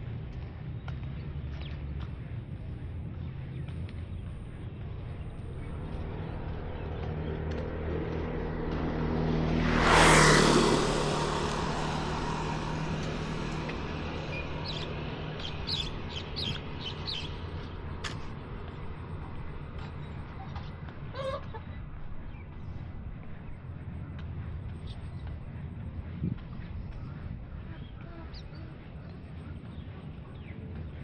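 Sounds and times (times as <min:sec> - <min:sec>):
vehicle engine passing by: 0:04.2 - 0:30.9.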